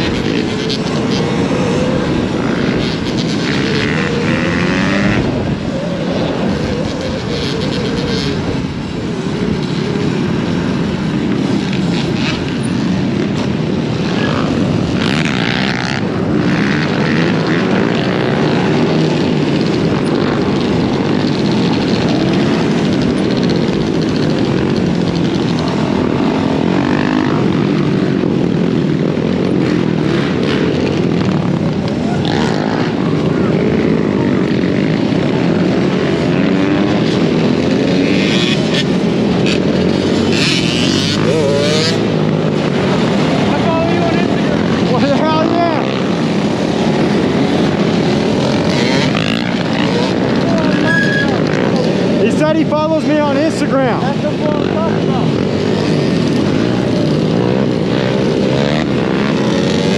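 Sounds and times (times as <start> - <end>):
dirt bike engines revving: 0.0 - 59.9
wind rushing over microphone: 0.0 - 59.9.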